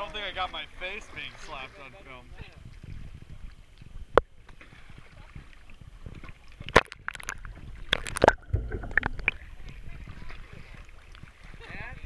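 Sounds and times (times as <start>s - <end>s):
water splashes: 0.0s - 12.0s
water washing along boat: 0.0s - 12.0s.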